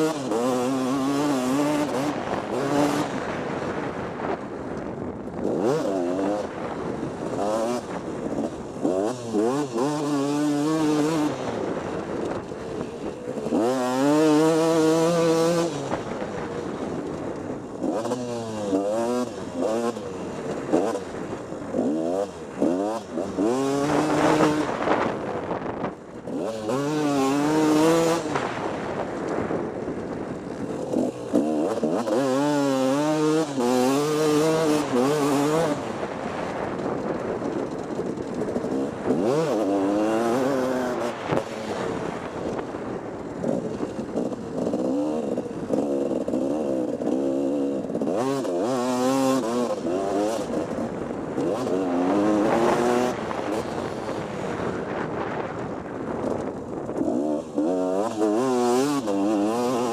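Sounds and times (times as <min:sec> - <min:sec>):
motocross bike engine revving: 0:00.0 - 0:59.9
wind rushing over camera: 0:00.0 - 0:59.9.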